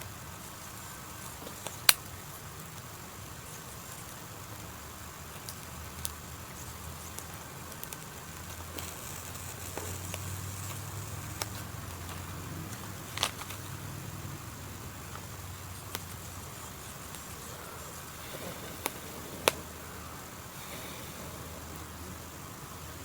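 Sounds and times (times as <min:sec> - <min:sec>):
campfire crackling and popping: 0:00.0 - 0:23.0
low steady rumble: 0:00.0 - 0:23.0.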